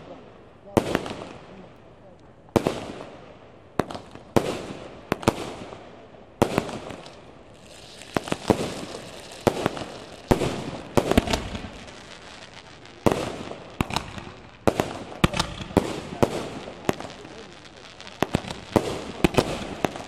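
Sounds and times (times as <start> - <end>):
fireworks bursting: 0.0 - 1.8, 2.6 - 20.0.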